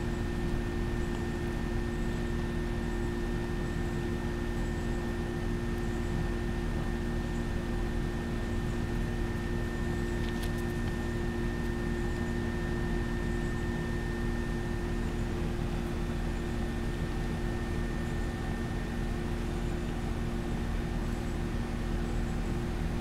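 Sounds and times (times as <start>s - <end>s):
machine hum with hiss: 0.0s - 23.0s.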